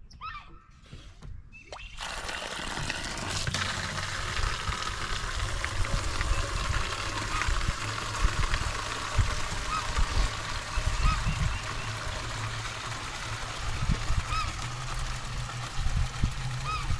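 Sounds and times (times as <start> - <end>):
water pouring into container: 1.8 - 16.9
low rumble: 3.0 - 16.9.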